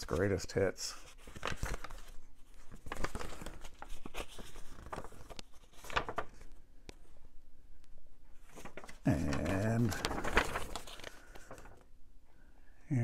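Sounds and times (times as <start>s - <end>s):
paper rustling and crinkling: 0.0s - 7.2s, 8.3s - 11.9s.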